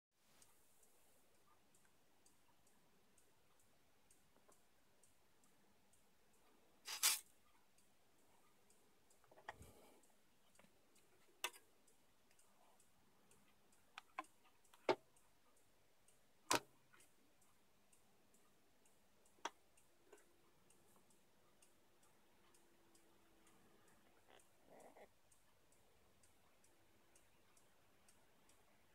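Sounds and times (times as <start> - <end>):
faint fast ticking: 0.2 - 28.9.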